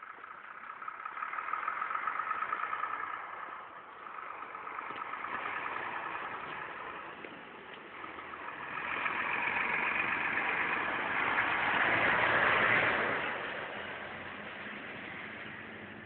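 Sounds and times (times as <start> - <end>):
car driving past: 0.1 - 16.0.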